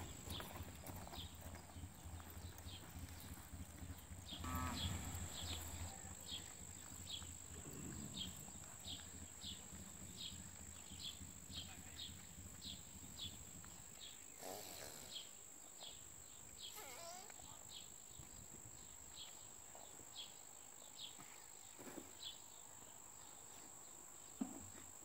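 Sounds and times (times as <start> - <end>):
insect chirp: 0.0 - 25.0.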